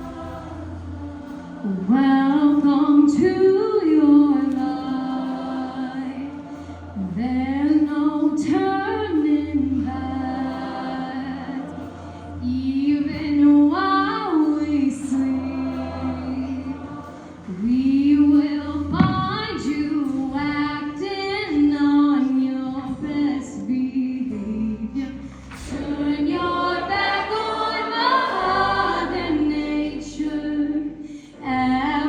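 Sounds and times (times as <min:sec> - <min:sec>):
choir voices singing: 0:00.0 - 0:32.0.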